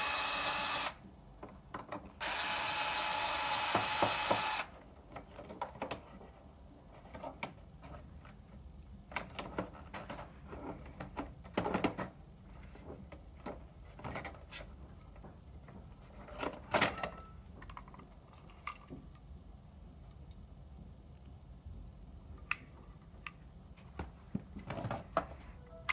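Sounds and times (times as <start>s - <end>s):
faint low hum: 4.7s - 25.9s.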